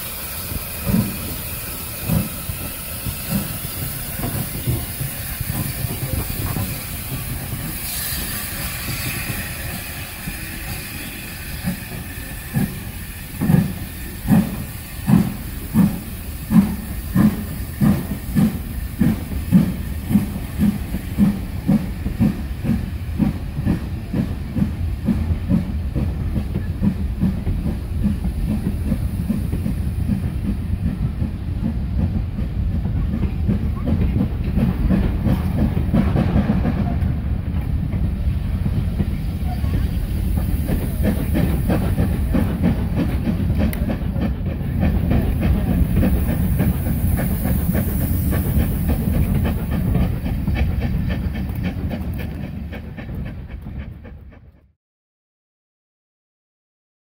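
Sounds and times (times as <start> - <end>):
steam hissing: 0.0 - 54.1
rush of steam: 0.0 - 54.6
steam locomotive exhaust beats: 0.0 - 54.7.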